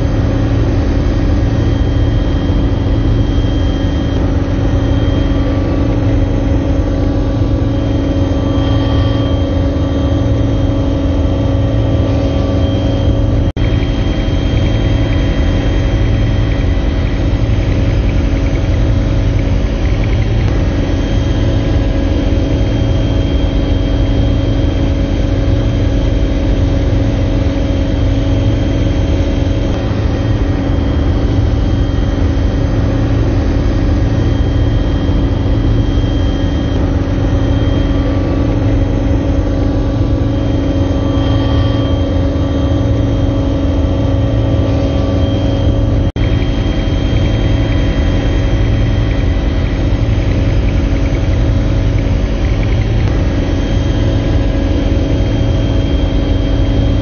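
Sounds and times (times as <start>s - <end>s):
helicopter cabin drone: 0.0s - 57.0s.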